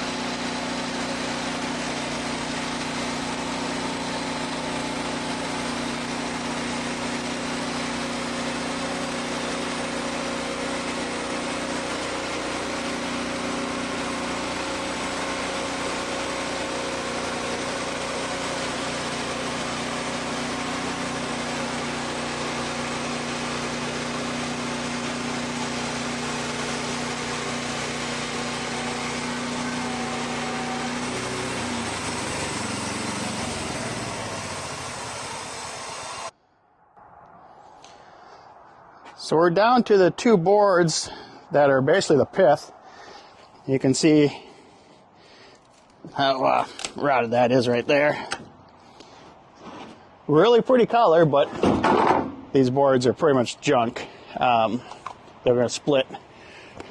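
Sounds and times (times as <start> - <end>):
sawmill engine running: 0.0 - 36.4, 39.2 - 56.9.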